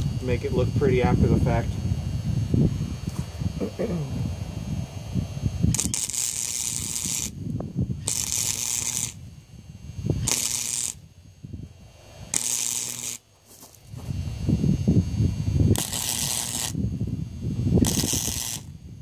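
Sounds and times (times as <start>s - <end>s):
arc welding hiss and crackle: 0.0s - 19.0s.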